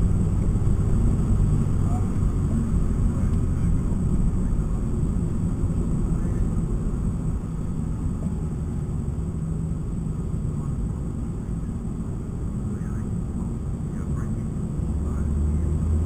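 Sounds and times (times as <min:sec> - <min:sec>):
car engine running: 0:00.0 - 0:16.0
road and tyre rumble: 0:00.0 - 0:16.0.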